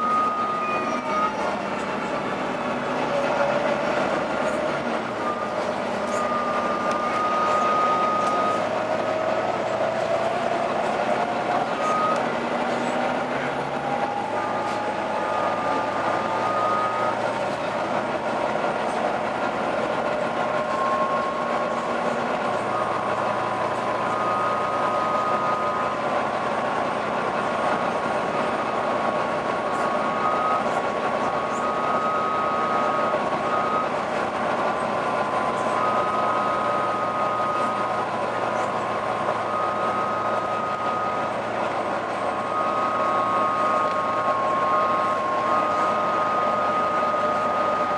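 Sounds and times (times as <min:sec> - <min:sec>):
bus engine running: 0:00.0 - 0:47.9
howling whine: 0:00.0 - 0:47.9.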